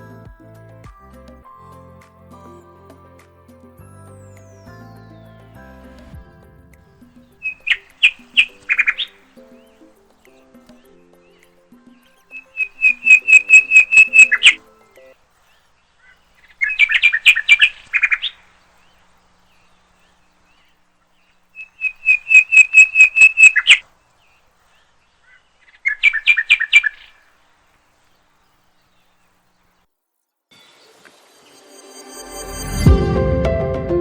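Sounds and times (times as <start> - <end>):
songbird chirping: 0.0 - 29.9.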